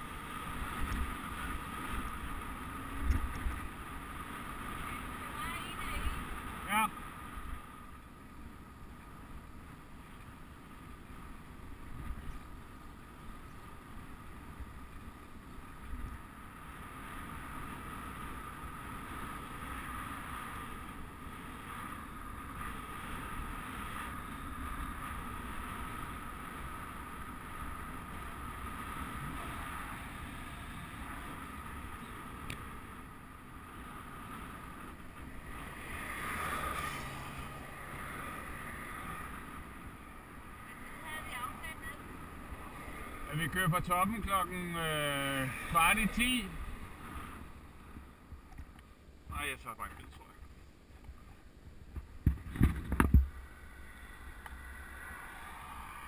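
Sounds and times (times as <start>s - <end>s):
faint high whine: 0.0s - 56.0s
low road rumble: 0.0s - 56.0s.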